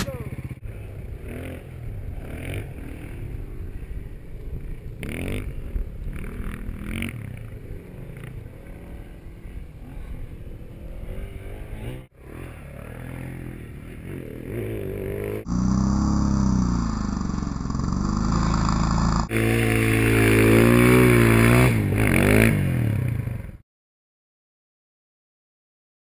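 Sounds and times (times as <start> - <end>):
motorcycle engine revving: 0.0 - 23.6.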